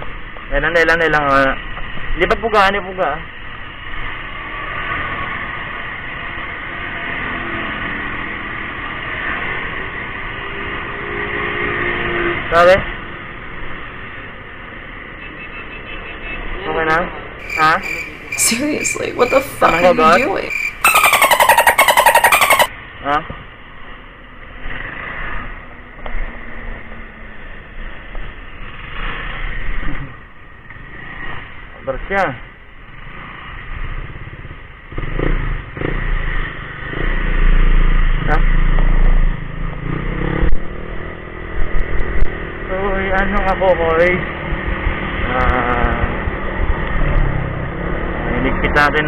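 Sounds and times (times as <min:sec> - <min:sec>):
wind and road noise: 0:00.0 - 0:49.0.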